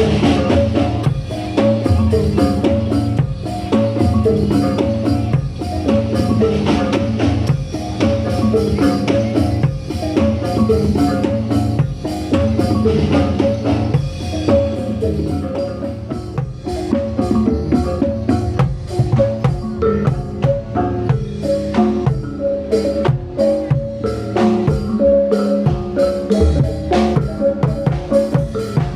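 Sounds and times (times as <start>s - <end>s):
drums and metal percussion: 0.0s - 28.9s.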